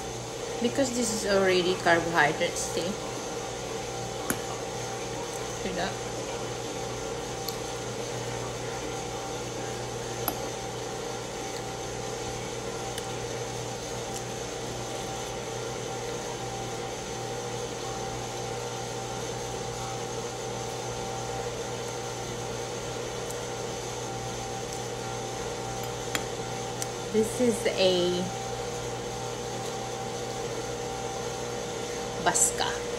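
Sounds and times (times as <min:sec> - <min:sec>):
household machine hum: 0:00.0 - 0:32.9.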